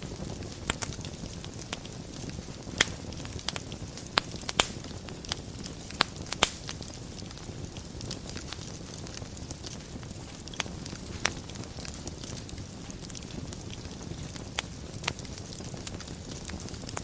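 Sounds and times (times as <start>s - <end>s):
fireplace fire crackling: 0.0s - 17.0s
low rush of flame: 0.0s - 17.0s.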